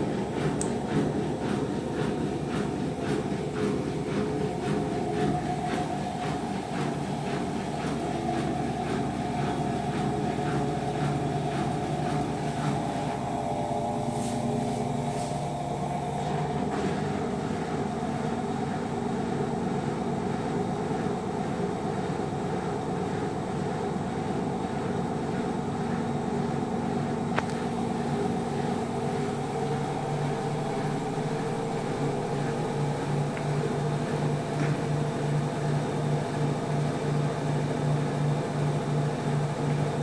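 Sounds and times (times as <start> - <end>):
washing machine running: 0.0 - 40.0.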